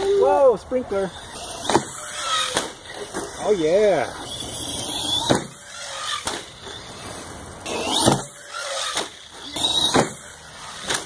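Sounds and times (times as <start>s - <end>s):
electric motor whining: 1.2s - 11.0s.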